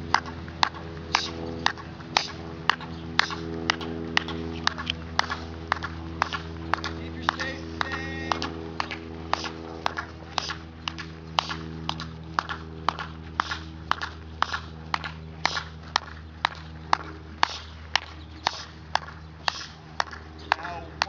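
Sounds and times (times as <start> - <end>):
sharp marching taps: 0.0 - 21.0
steady low hum: 0.0 - 21.0.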